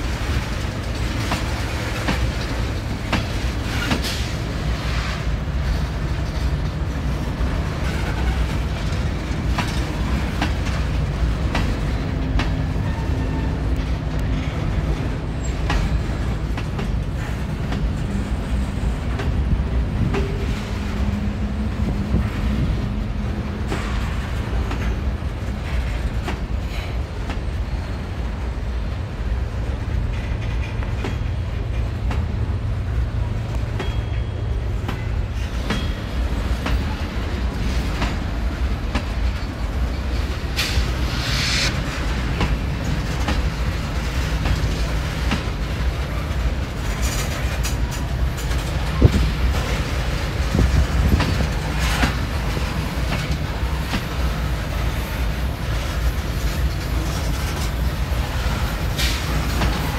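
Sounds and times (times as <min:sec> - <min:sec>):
freight train wheels rumbling: 0:00.0 - 0:59.9
wheels clacking over rail joints: 0:00.0 - 0:59.9.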